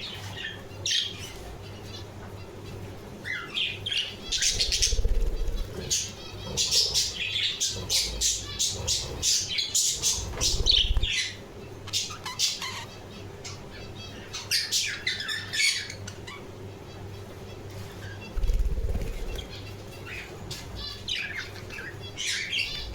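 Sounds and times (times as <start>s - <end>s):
budgerigars chirping and squawking: 0.0s - 22.9s.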